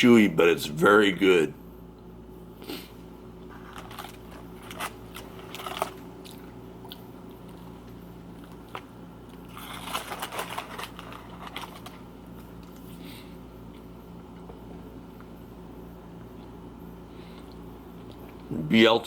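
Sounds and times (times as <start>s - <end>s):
faint low hum: 0.0s - 19.0s
man chewing food: 2.0s - 18.6s.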